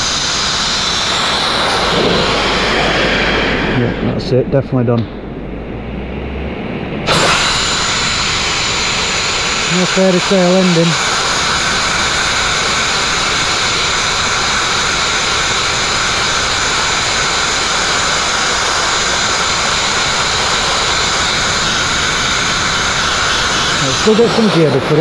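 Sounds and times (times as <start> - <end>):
compressed air hissing from nozzle: 0.0 - 4.1, 7.1 - 25.0.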